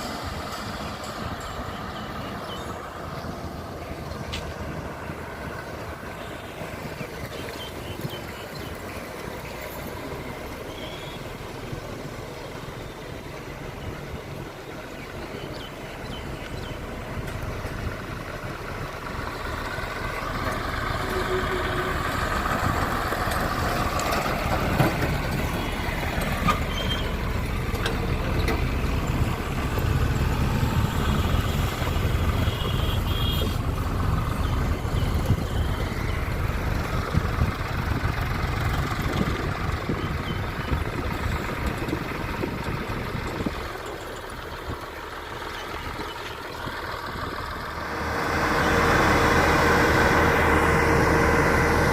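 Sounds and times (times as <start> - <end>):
diesel machinery engine rumble: 0.0 - 51.9.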